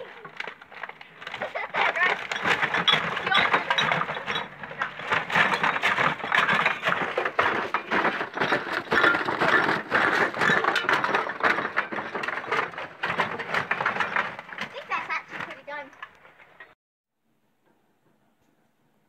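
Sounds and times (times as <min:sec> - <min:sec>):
rubbish crackling and crunching: 0:00.0 - 0:16.8.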